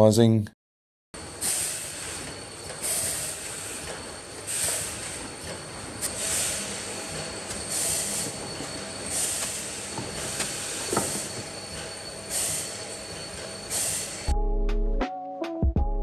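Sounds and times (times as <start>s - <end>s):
conveyor mechanical noise: 1.2s - 14.3s
thin high whine: 1.2s - 14.3s.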